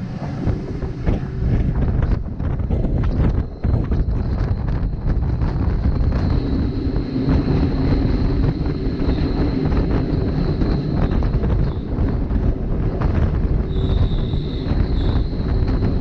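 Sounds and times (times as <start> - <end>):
thin high whine: 0.0 - 16.0
train wheels rumbling on rails: 0.0 - 16.0
wind buffeting microphone: 0.0 - 16.0.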